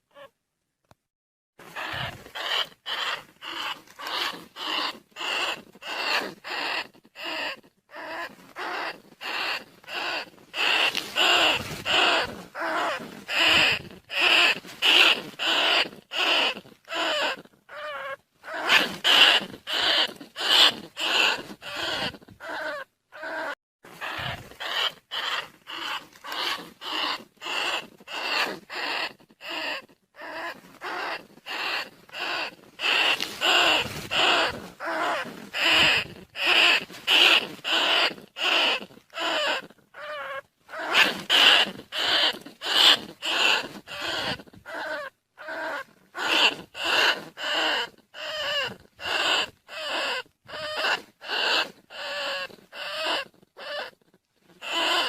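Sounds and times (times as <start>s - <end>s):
rat squeaks: 1.6s - 55.0s.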